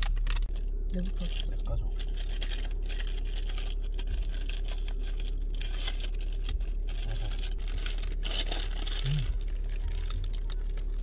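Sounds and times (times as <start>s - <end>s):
low car cabin hum: 0.0s - 11.0s
paper wrapper crinkling and tearing: 0.0s - 11.0s.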